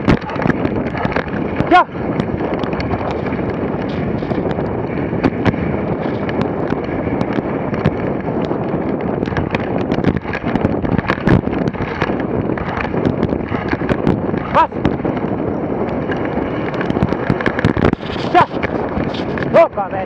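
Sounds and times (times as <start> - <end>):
sled knocking and rattling: 0.0 - 20.0
sled runners scraping snow: 0.0 - 20.0
wind on microphone: 0.0 - 20.0.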